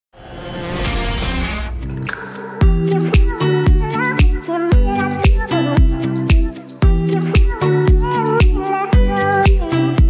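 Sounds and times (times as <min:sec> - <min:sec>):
bass notes: 0:00.7 - 0:10.0.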